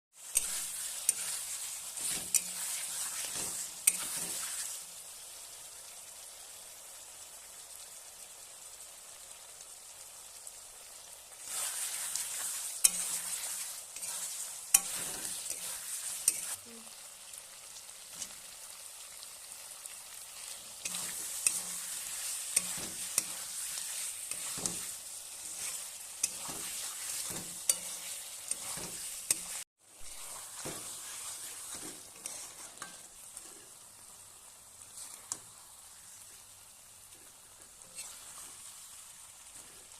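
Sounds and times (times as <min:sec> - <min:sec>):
chicken sizzling in a pan: 0:00.1 - 0:39.9.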